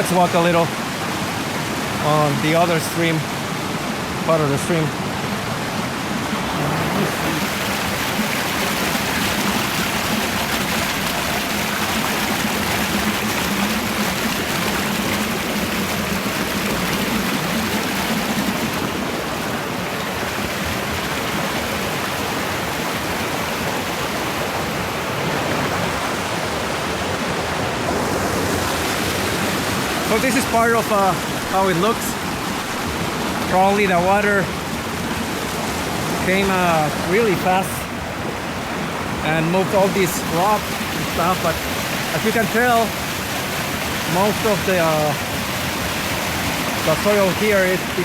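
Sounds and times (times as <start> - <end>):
mountain stream rushing: 0.0 - 48.0.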